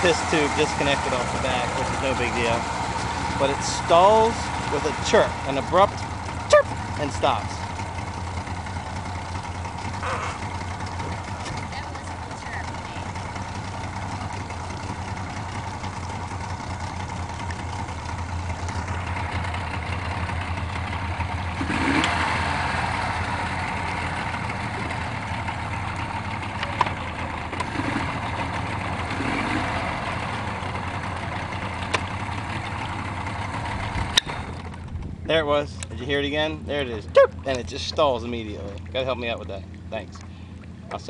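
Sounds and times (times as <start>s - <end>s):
outboard motor idling: 0.0s - 41.0s.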